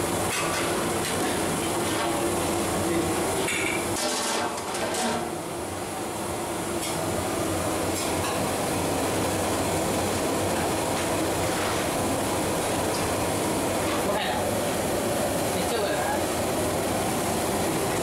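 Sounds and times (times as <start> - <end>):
gas burner rushing: 0.0 - 18.0.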